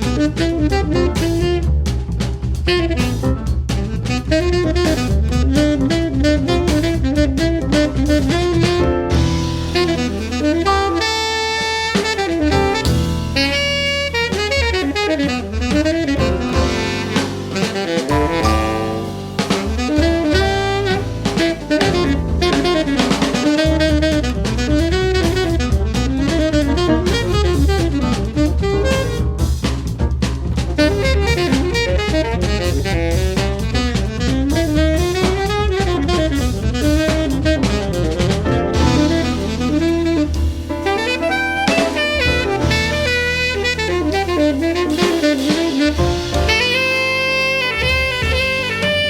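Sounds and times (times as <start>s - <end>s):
saxophone melody: 0.0s - 2.0s, 2.7s - 29.5s, 30.8s - 49.0s
drum kit with cymbals: 0.0s - 49.0s
walking bass line: 0.0s - 49.0s.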